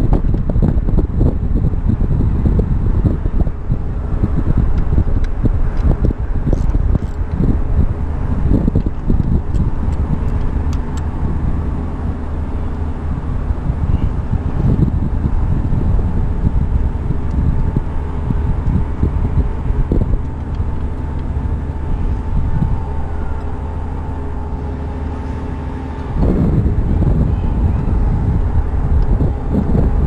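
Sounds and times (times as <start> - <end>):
mechanical hum: 0.0 - 30.0
wind on microphone: 0.0 - 30.0.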